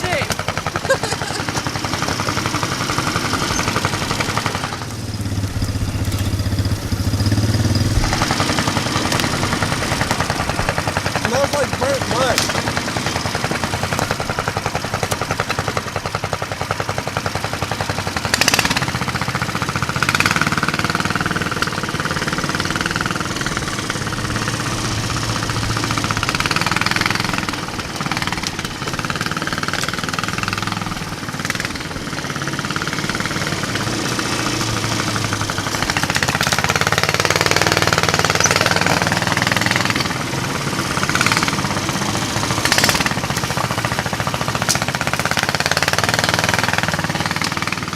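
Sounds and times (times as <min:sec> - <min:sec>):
small engine running under load: 0:00.0 - 0:47.9.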